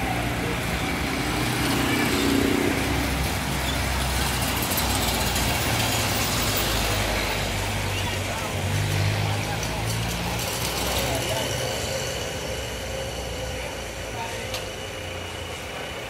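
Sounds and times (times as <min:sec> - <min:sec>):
motorcycle passing: 0:00.0 - 0:13.0.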